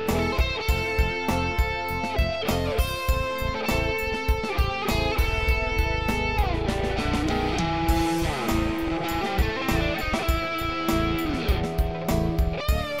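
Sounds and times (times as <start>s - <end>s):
guitar-led instrumental music: 0.0s - 13.0s
steady drum beat: 0.2s - 13.0s.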